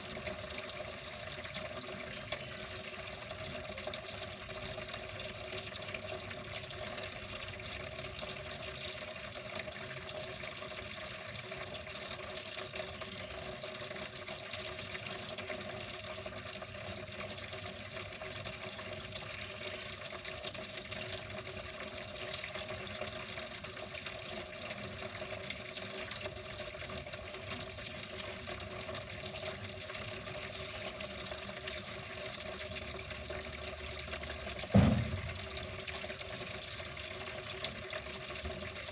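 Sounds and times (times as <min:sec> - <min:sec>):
water running steadily: 0:00.0 - 0:38.9.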